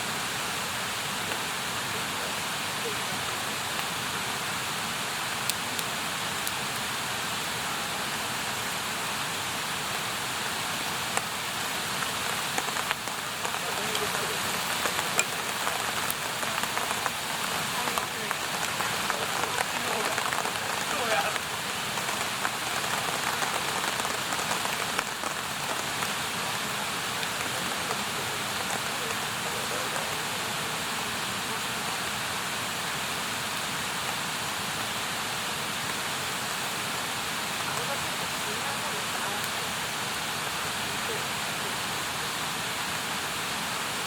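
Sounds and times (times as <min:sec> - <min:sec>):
campfire crackling and hissing: 0:00.0 - 0:44.0.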